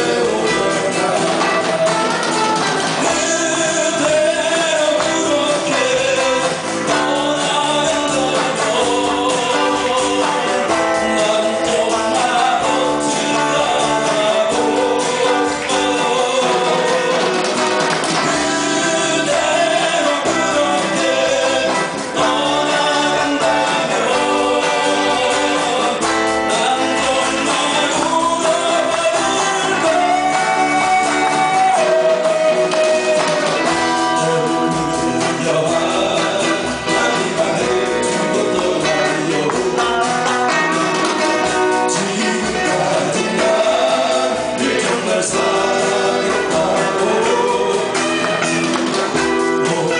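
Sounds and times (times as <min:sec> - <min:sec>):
live band playing: 0:00.0 - 0:49.9
person singing: 0:00.0 - 0:49.9.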